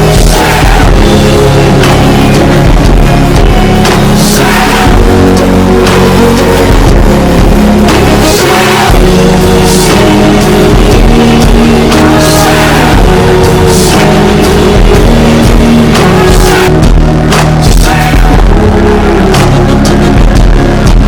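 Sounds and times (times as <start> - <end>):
rock song with vocals: 0.0 - 21.0.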